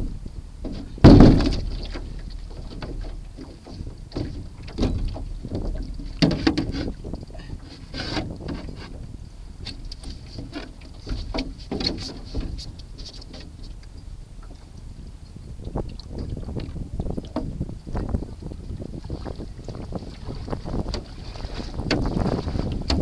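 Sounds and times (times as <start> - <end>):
paddle splashing in water: 0.0 - 23.0
wind rumble on microphone: 0.0 - 23.0.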